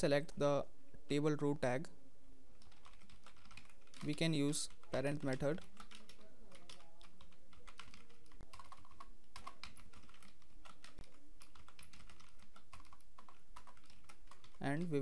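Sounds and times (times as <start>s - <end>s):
computer keyboard typing: 2.6s - 15.0s.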